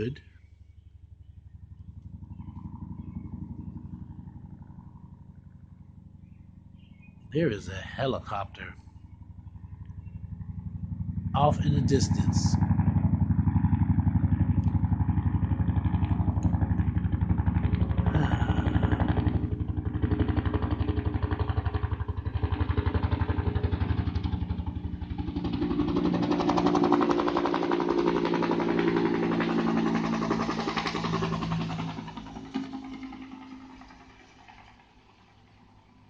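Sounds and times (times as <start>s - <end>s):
helicopter engine drone: 0.0s - 36.0s
helicopter rotor beating: 0.9s - 36.0s.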